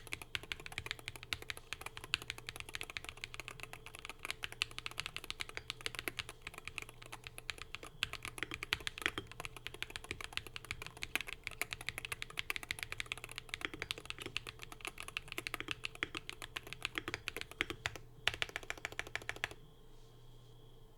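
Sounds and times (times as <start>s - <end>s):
fast keyboard typing: 0.0s - 19.6s.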